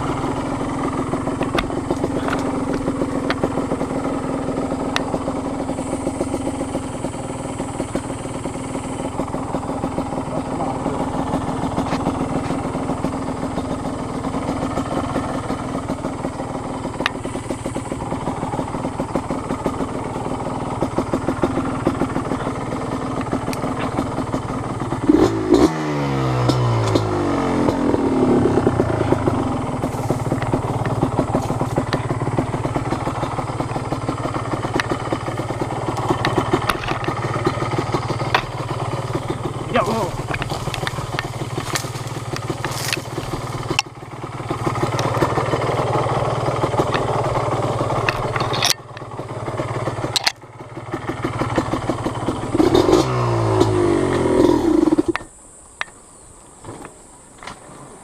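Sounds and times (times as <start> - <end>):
two-stroke engine revving: 0.0 - 55.4.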